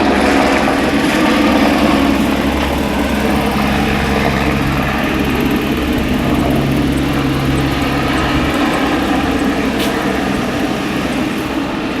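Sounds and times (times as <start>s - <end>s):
helicopter rotor and engine: 0.0s - 12.0s
low hum: 0.0s - 12.0s.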